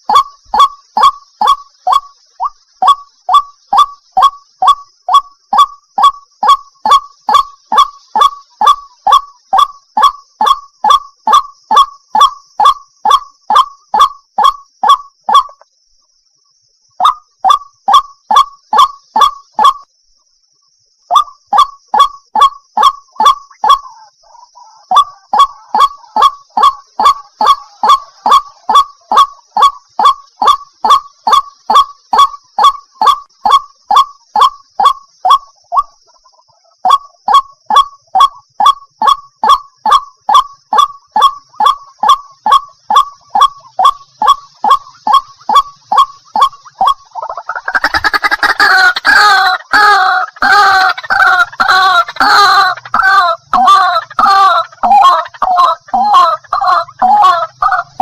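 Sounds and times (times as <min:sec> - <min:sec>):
recorded bird honking call: 0:00.0 - 0:15.6, 0:21.1 - 0:58.0.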